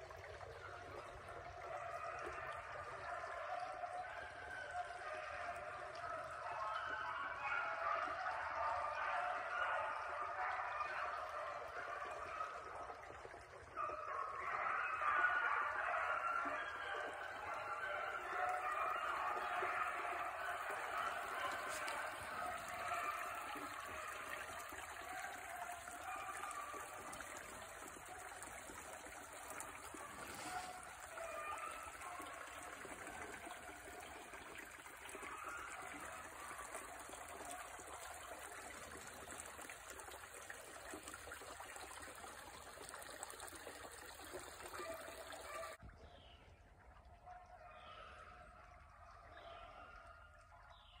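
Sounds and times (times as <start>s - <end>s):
creek trickling: 0.0s - 51.0s.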